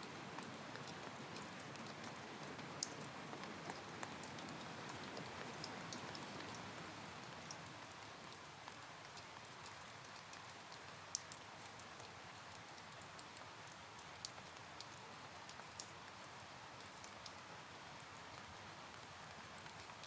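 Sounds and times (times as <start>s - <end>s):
faint steady rain: 0.0s - 20.0s
raindrops tapping on a surface: 0.0s - 20.0s.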